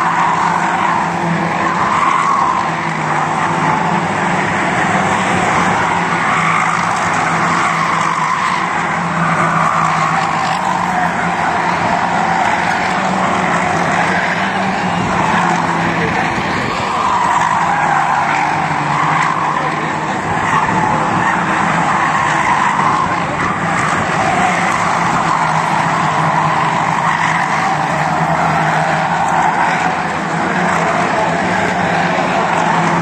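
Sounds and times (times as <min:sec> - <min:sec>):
racing car engines: 0:00.0 - 0:33.0.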